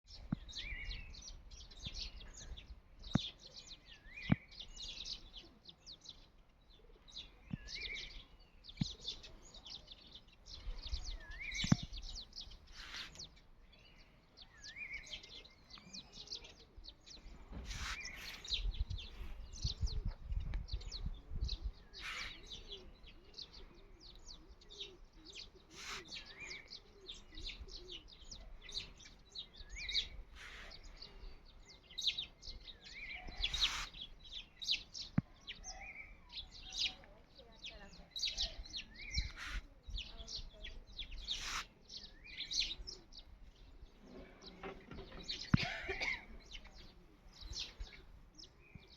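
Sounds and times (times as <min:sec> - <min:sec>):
birds chirping and singing: 0:00.1 - 0:48.9.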